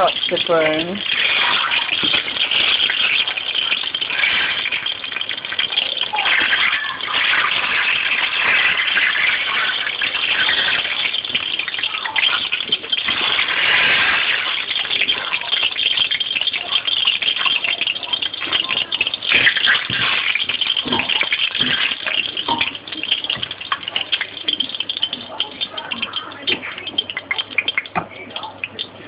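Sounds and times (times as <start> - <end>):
hot oil sizzling in a pot: 0.0 - 29.0.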